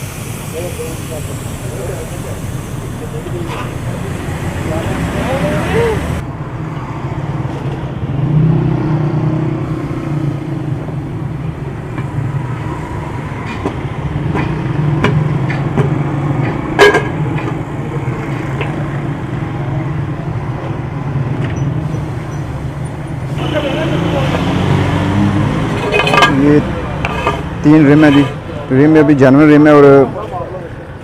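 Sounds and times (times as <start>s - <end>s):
engines and street traffic hum: 0.0s - 31.0s.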